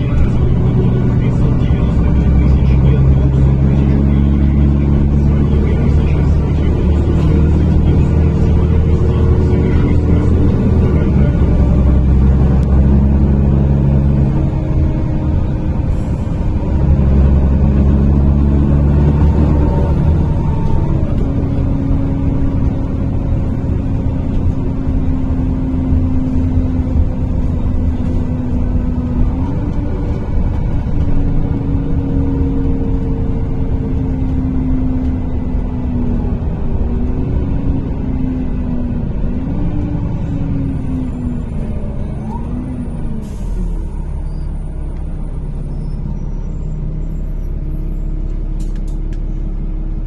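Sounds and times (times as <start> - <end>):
bus engine low drone: 0.0 - 50.0
drivetrain whine: 0.0 - 50.0.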